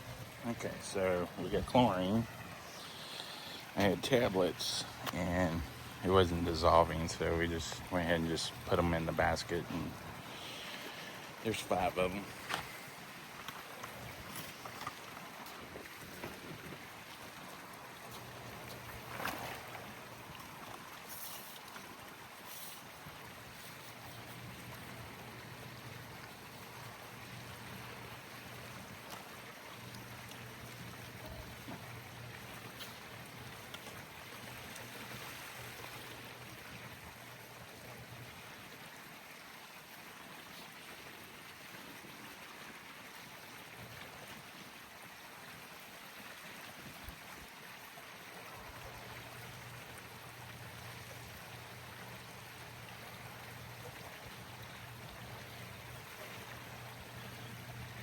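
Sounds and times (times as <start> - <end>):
circulating pool water rushing: 0.0 - 58.0.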